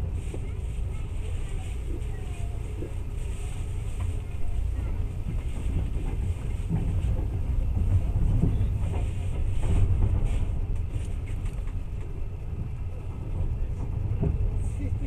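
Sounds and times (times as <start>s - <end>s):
train rumbling from inside: 0.0s - 15.0s
faint rattles: 0.2s - 15.0s.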